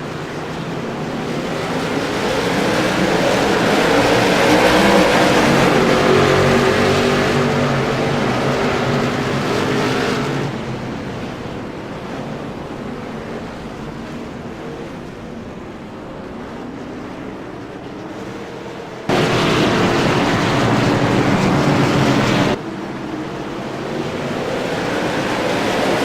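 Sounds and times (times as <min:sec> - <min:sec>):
race car engines at speed: 0:00.0 - 0:26.0.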